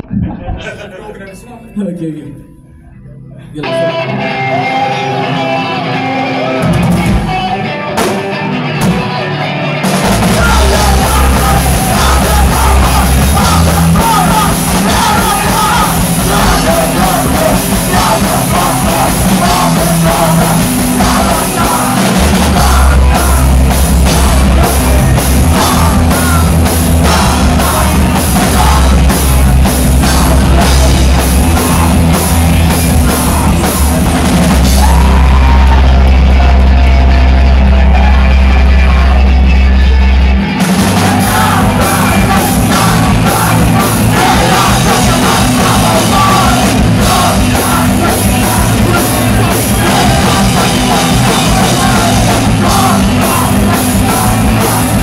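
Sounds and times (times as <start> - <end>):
bass guitar: 0.0 - 1.5, 2.5 - 55.0
drums: 0.0 - 1.6, 2.4 - 55.0
guitar: 0.0 - 55.0
screamo vocals: 10.0 - 55.0.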